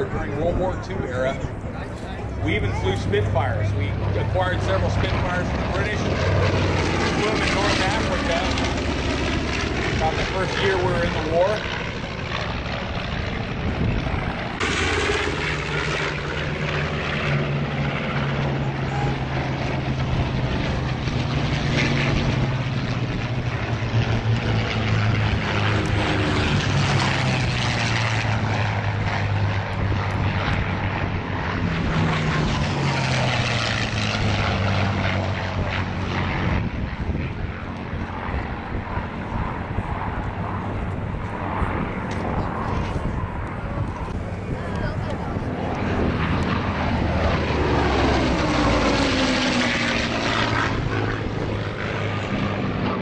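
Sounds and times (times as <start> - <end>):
propeller planes droning past: 0.0 - 53.0.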